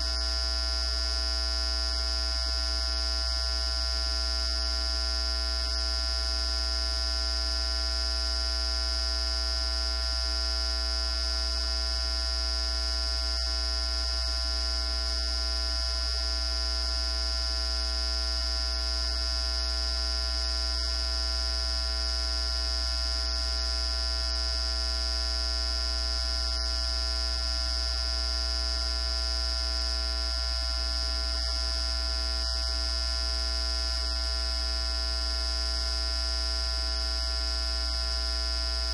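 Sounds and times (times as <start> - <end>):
electrical hum with high whine: 0.0 - 38.9.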